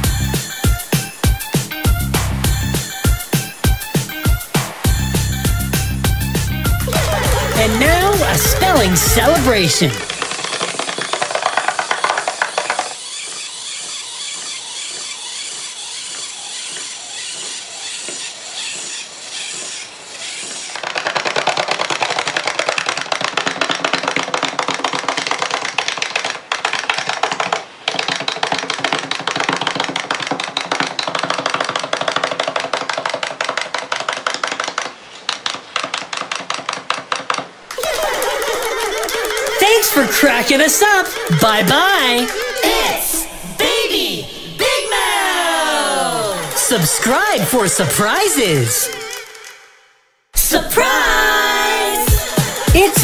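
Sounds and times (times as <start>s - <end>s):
wind-up toys clicking and rattling: 0.3s - 4.5s, 6.2s - 43.2s, 45.8s - 49.6s.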